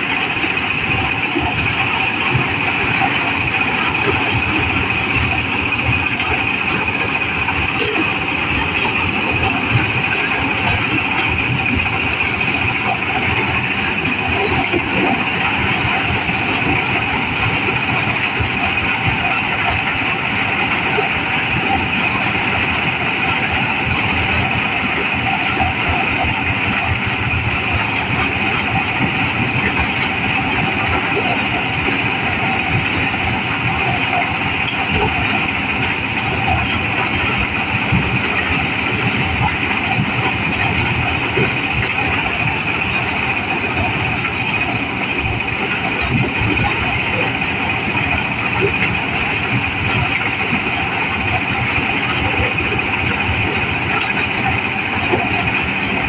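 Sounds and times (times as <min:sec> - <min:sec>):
corn sheller running: 0:00.0 - 0:56.0.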